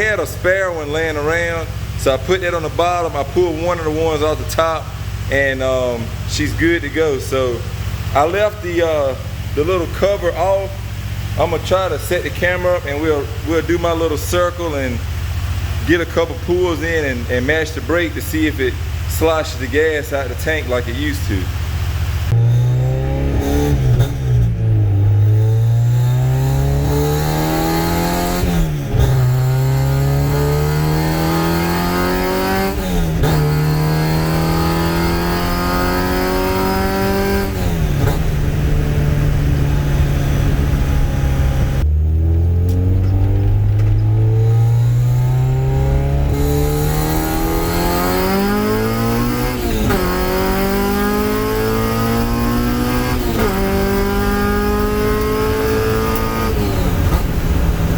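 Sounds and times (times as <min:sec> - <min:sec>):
car engine accelerating through gears: 0:00.0 - 0:57.9.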